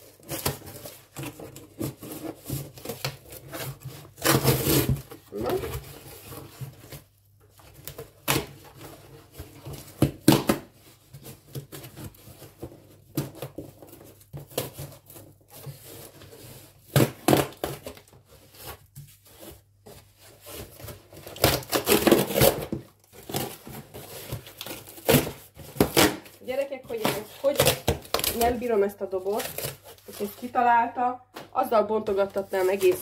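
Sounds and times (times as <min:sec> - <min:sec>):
cardboard box being torn open: 0:00.0 - 0:07.0, 0:07.8 - 0:18.8, 0:20.3 - 0:26.4, 0:27.0 - 0:30.5.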